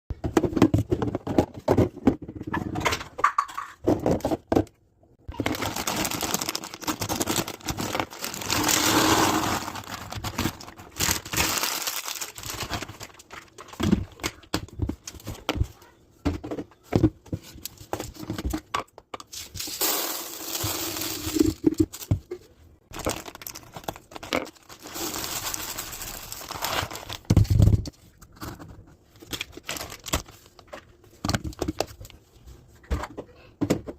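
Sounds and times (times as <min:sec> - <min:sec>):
rustling and crinkling: 0:05.3 - 0:33.0.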